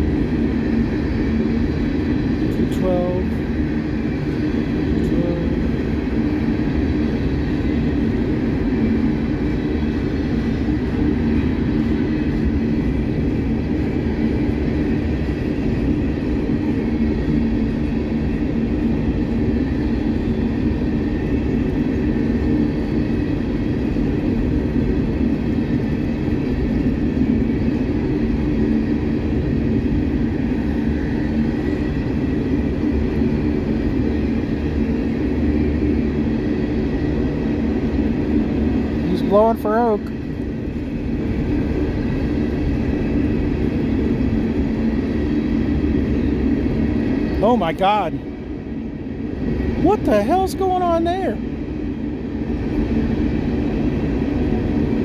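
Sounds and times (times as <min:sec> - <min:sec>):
freight cars rumbling on rails: 0:00.0 - 0:55.0.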